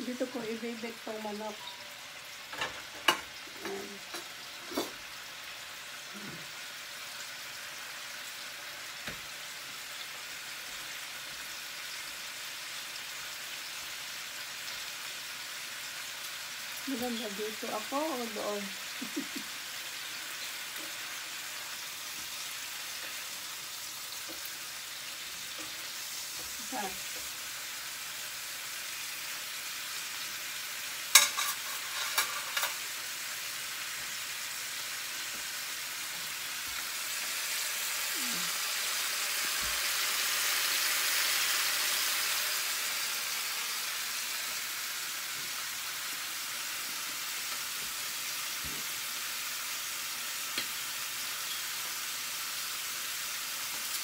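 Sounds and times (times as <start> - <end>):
chicken sizzling in a skillet: 0.0 - 54.0.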